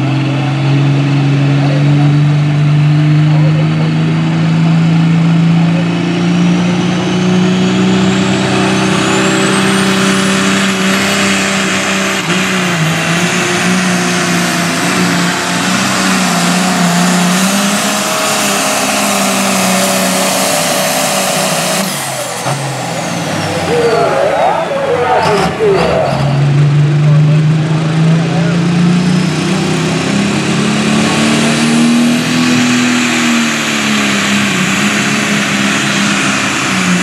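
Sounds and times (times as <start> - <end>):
diesel tractor engine at full load: 0.0 - 37.0
high turbo whine: 0.0 - 37.0.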